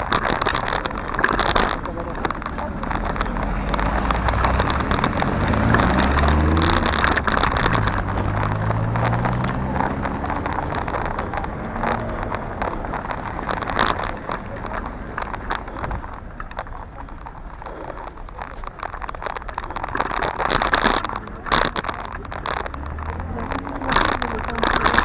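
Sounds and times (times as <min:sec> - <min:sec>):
road noise: 0:00.0 - 0:25.0
vehicle engine passing close: 0:00.7 - 0:18.6, 0:20.4 - 0:25.0.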